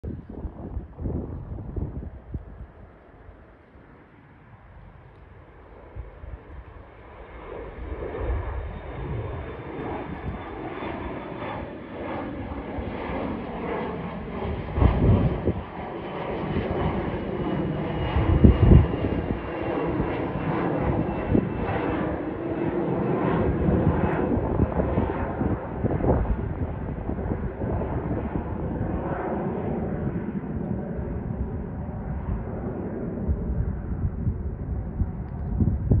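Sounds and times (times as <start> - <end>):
jet climbing after takeoff: 0.0 - 36.0.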